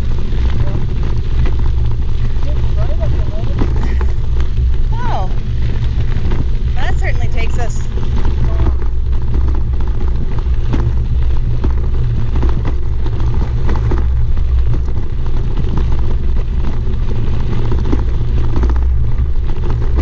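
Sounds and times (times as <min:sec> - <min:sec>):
bicycle tyres rolling on gravel: 0:00.0 - 0:20.0
small rattles: 0:00.0 - 0:20.0.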